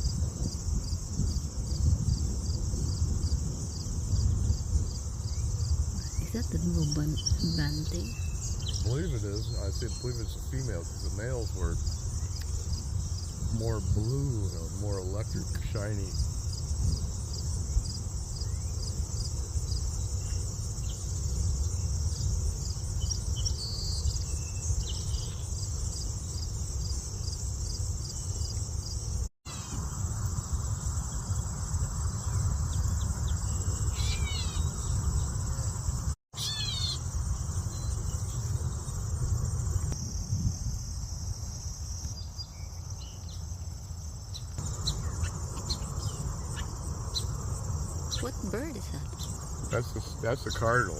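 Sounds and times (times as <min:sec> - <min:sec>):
insects chirping: 0:00.0 - 0:50.9.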